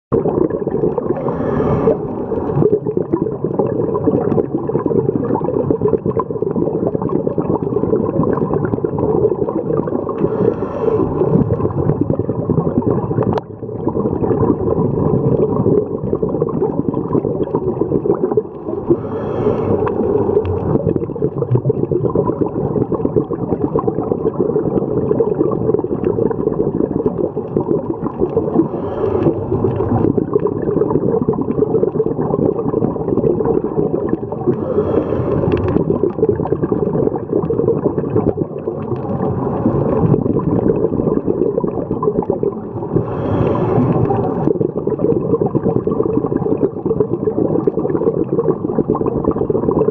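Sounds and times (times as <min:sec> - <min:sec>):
diver's bubbles gurgling: 0:00.1 - 0:49.9
muffled underwater rumble: 0:00.1 - 0:49.9.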